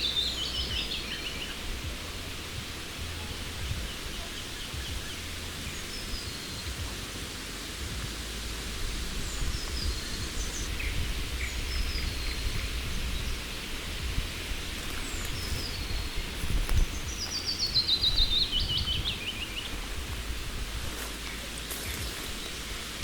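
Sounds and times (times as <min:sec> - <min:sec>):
outdoor rustling: 0:00.0 - 0:23.0
small birds chirping: 0:00.0 - 0:23.0
wind buffeting microphone: 0:00.0 - 0:23.0.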